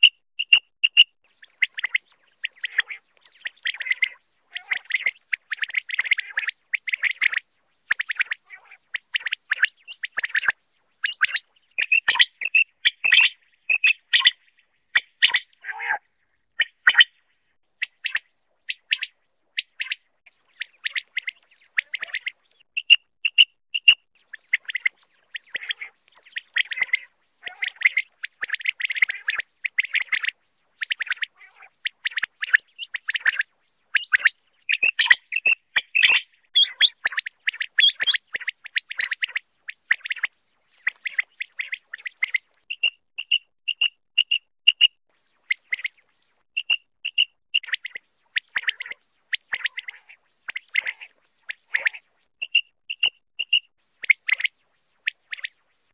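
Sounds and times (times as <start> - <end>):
quail calling: 0.0 - 17.1, 17.8 - 44.9, 46.6 - 54.5.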